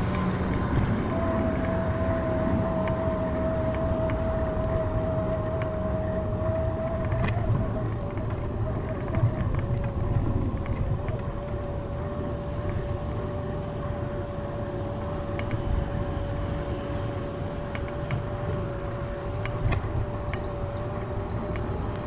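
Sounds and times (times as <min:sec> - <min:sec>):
steady whine: 0:00.0 - 0:22.0
wind and tyres rolling rumble: 0:00.0 - 0:22.0.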